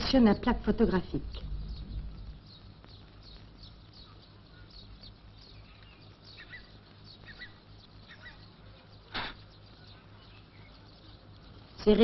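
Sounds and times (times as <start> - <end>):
bird chirping: 0.0 - 12.0
low steady hum: 0.0 - 12.0.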